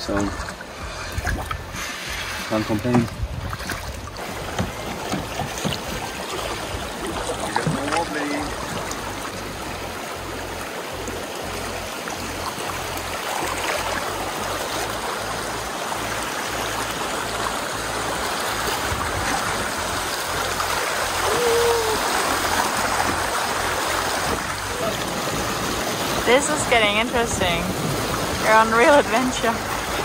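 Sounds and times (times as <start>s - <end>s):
river water rushing over rocks: 0.0s - 30.0s.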